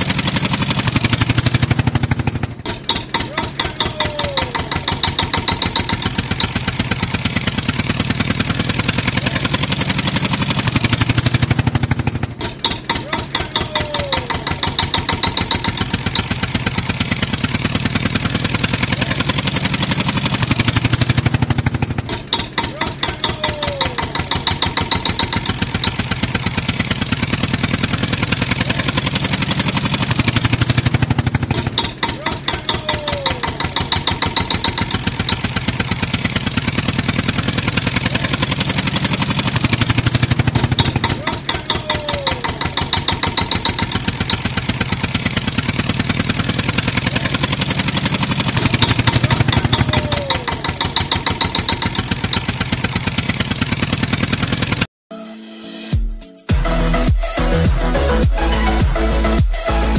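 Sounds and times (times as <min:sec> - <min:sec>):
tractor engine chugging: 0:00.0 - 0:54.9, 0:56.5 - 0:59.9.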